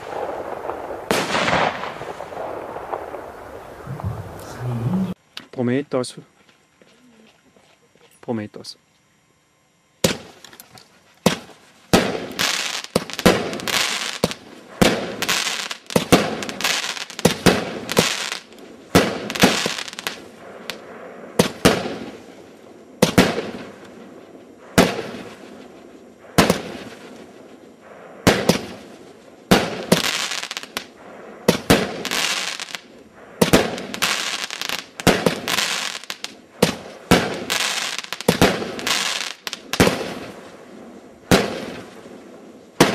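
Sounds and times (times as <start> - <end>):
firework bangs: 0.0 - 5.1, 10.0 - 10.5, 11.2 - 42.9.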